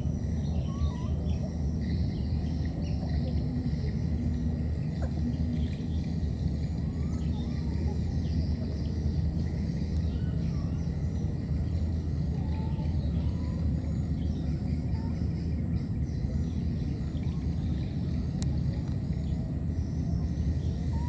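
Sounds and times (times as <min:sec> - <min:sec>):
faint high chirps: 0:00.0 - 0:21.0
low rumble of background noise: 0:00.0 - 0:21.0.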